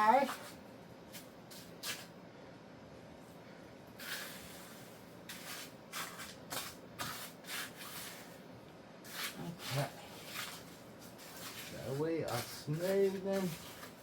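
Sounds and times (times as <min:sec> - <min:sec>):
trowel scraping wet concrete: 0:00.1 - 0:02.1, 0:04.0 - 0:08.4, 0:09.0 - 0:14.0.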